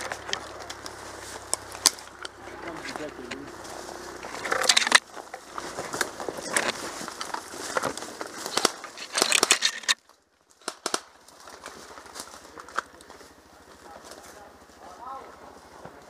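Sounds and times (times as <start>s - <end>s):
brush and twigs crackling: 0.0s - 16.0s.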